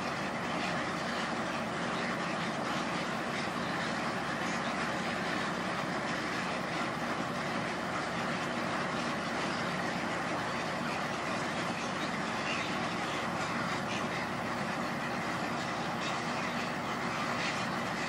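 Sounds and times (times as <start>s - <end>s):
egrets calling: 0.0s - 18.0s.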